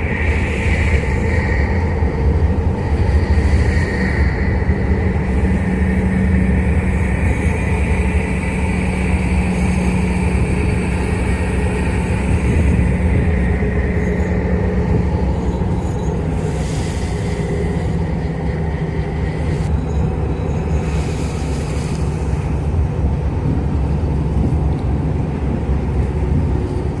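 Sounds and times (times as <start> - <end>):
boat engine rumbling: 0.0 - 27.0.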